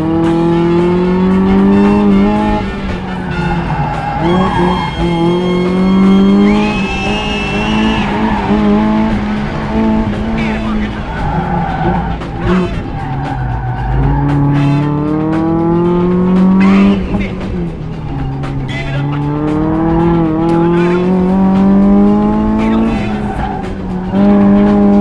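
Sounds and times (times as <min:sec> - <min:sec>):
car engine revving at full throttle: 0:00.0 - 0:25.0
music: 0:00.0 - 0:25.0.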